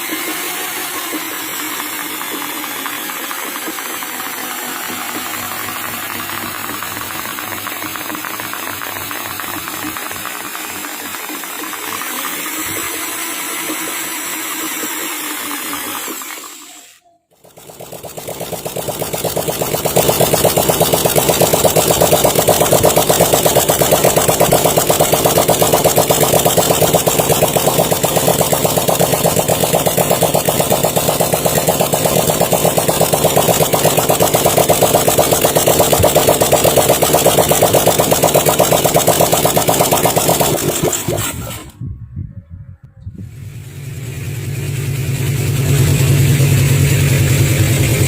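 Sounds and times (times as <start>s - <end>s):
motorcycle engine running: 0.0s - 16.7s, 17.3s - 41.8s, 43.2s - 48.0s.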